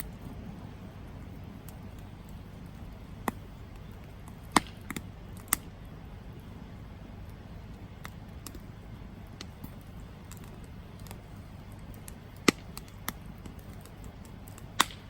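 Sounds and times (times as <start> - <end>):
campfire burning: 0.0 - 15.0
wood crackling and popping: 0.0 - 15.0.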